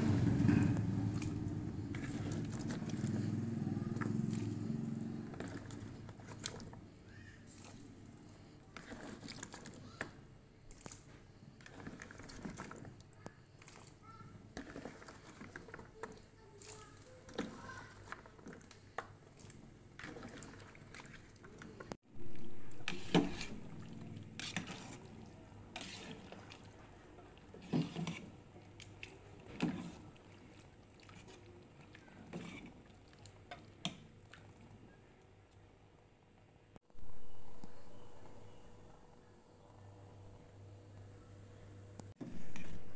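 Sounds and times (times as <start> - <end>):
soup sloshing: 0.0 - 35.0, 42.3 - 42.9.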